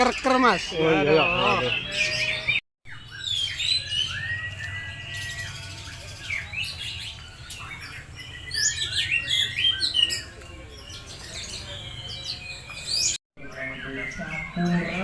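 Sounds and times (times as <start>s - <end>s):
bird singing whistles and chirps: 1.1s - 15.0s.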